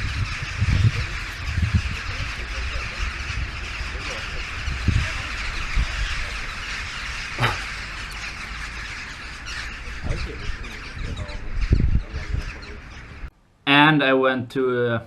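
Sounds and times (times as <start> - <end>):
crows cawing: 0.0 - 13.3
low microphone rumbles: 0.0 - 13.3.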